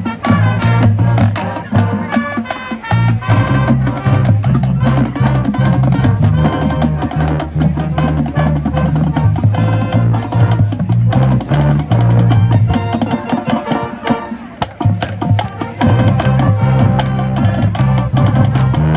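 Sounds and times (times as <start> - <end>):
drumline and percussion strikes: 0.0 - 18.9
marching band brass: 0.0 - 18.9.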